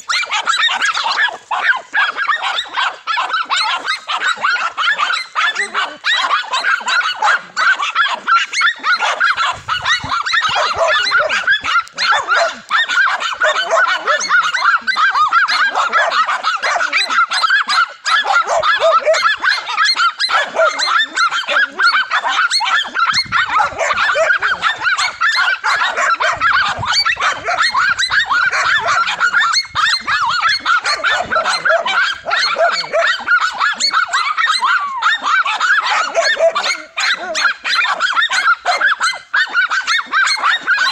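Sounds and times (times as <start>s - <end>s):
dogs barking and yapping: 0.0s - 40.9s.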